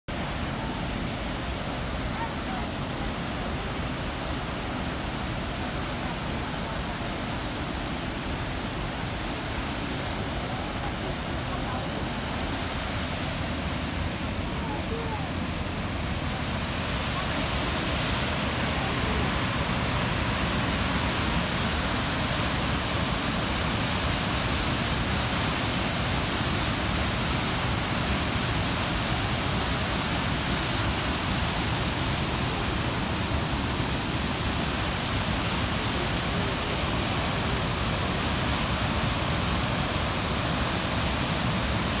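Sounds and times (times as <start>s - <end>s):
waterfall rushing: 0.1s - 42.0s.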